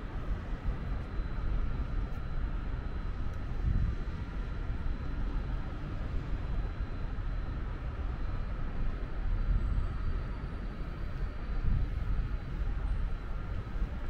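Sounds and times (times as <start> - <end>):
faint steady hum: 0.0 - 14.0
low city rumble: 0.0 - 14.0.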